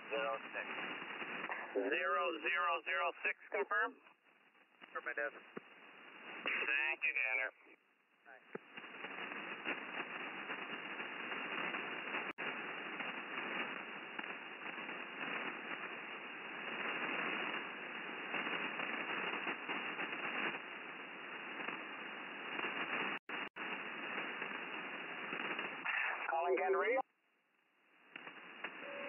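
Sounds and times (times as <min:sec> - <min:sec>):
radio receiver hiss and static: 0:00.0 - 0:27.1, 0:27.7 - 0:29.0.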